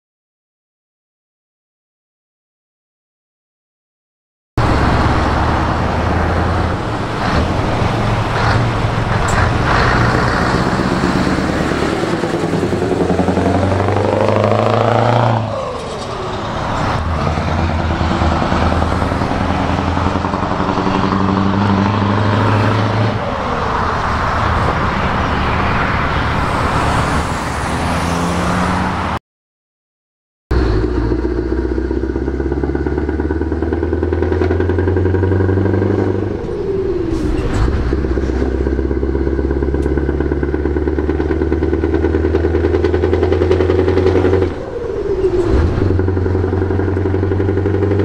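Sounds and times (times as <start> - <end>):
diesel truck engine accelerating: 4.6 - 29.2, 30.5 - 48.0.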